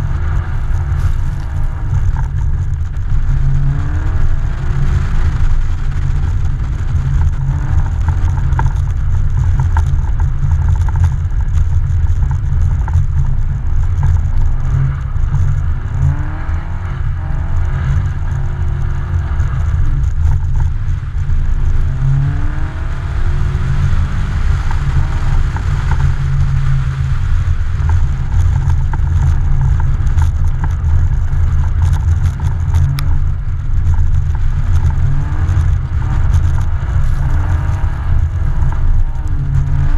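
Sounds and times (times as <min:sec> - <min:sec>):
car engine revving: 0:00.0 - 0:39.9
low steady rumble: 0:00.0 - 0:39.9.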